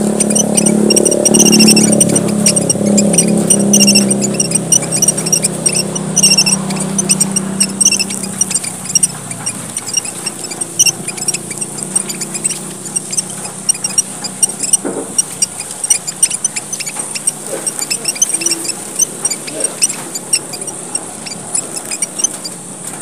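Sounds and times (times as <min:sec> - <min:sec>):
finches chattering: 0:00.0 - 0:23.0.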